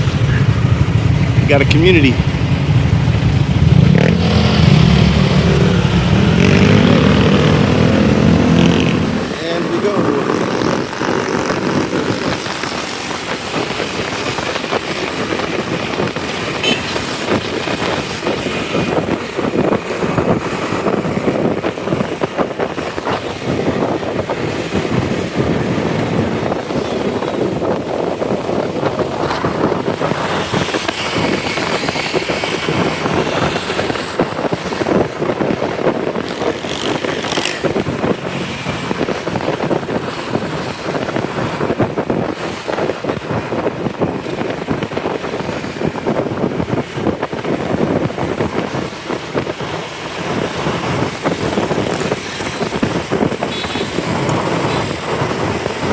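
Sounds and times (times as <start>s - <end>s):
motorcycle running at speed: 0.0s - 55.9s
road and traffic noise: 0.0s - 55.9s.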